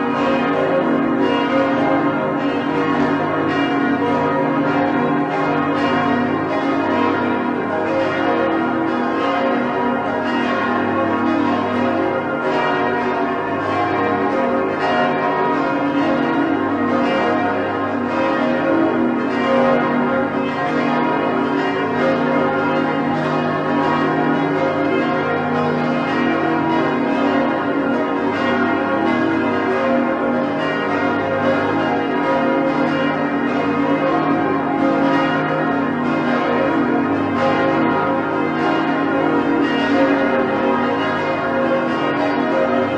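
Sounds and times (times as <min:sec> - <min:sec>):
church bells ringing a peal: 0:00.0 - 0:42.9.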